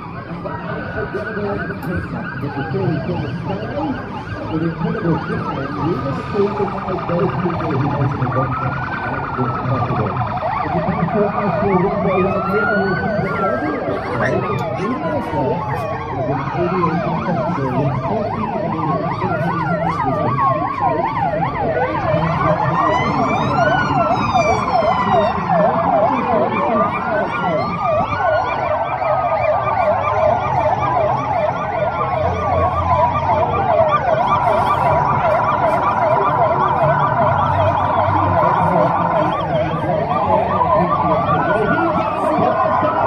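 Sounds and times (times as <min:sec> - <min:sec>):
emergency sirens yelping and wailing: 0:00.0 - 0:43.0.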